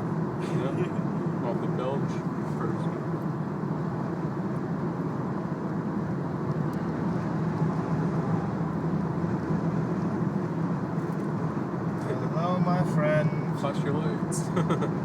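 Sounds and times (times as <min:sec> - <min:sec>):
road and wind noise in car: 0:00.0 - 0:15.0
tyre and drivetrain drone: 0:00.0 - 0:15.0.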